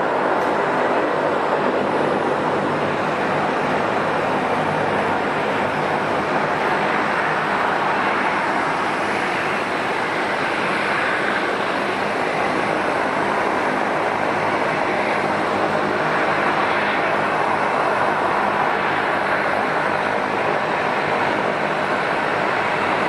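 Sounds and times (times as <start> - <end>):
turboprop engines running: 0.0 - 23.0.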